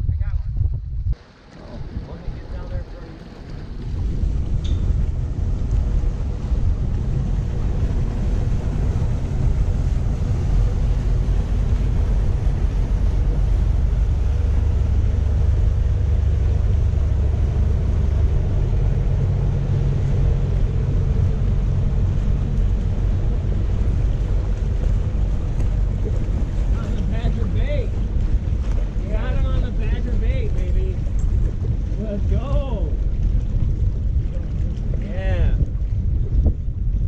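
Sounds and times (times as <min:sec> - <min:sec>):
boat engine rumble: 0:00.0 - 0:37.0.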